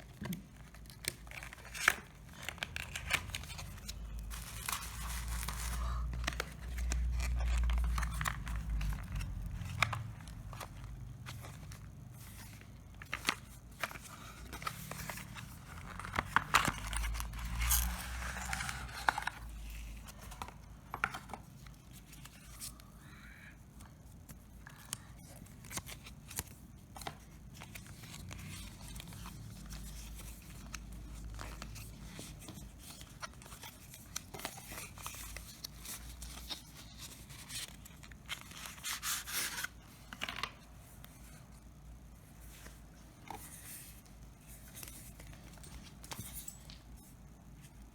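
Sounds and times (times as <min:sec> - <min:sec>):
cardboard and plastic rustling: 0:00.0 - 0:23.0, 0:24.0 - 0:47.9.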